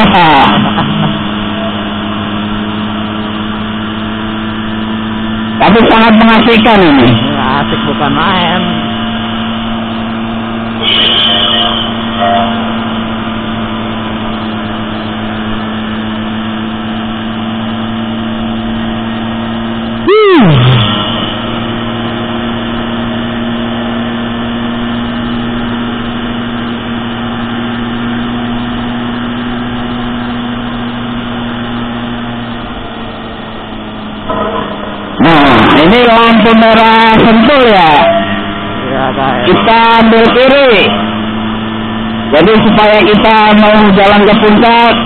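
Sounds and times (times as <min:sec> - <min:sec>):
motorcycle engines running: 0:00.0 - 0:45.0
passing motorcycle: 0:00.0 - 0:45.0.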